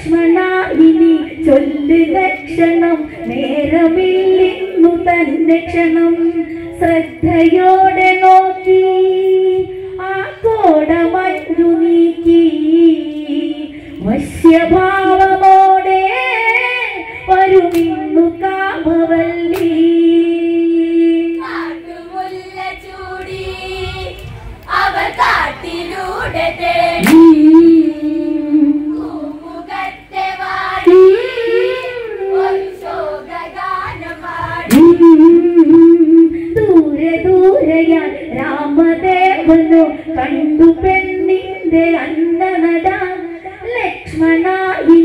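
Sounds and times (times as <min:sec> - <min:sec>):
women and girls singing: 0:00.0 - 0:45.0.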